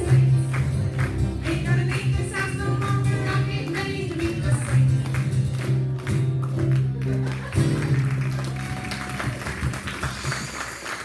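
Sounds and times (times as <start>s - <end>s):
applause: 0.0s - 1.2s, 1.8s - 11.0s
band with guitars and keyboard: 0.0s - 11.0s.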